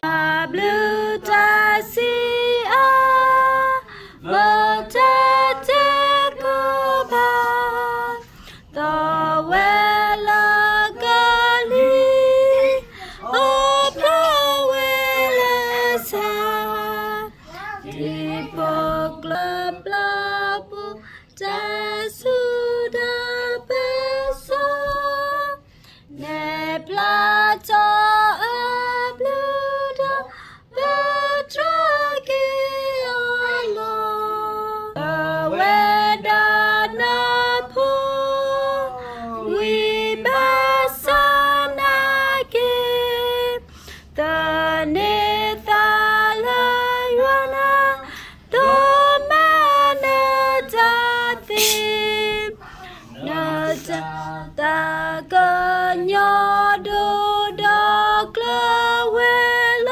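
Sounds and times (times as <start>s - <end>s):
women and children singing: 0.0s - 59.9s.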